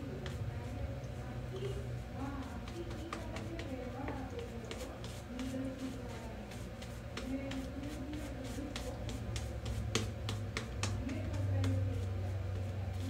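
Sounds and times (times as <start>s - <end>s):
shaving brush on wet lather: 0.0s - 13.0s.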